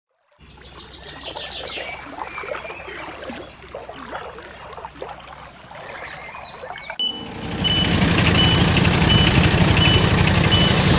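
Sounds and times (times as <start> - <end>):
shallow river flowing: 0.1 - 10.9
birds chirping: 0.4 - 3.8, 4.9 - 10.9.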